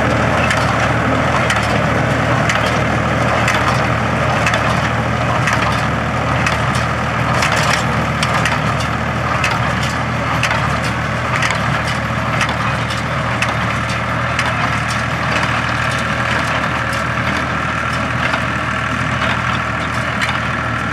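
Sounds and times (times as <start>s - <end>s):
baler clacking: 0.0s - 20.9s
tractor engine running: 0.0s - 20.9s.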